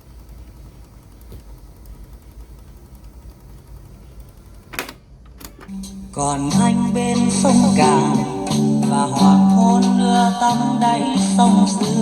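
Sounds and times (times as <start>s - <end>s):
speaker hum and hiss: 0.0s - 12.0s.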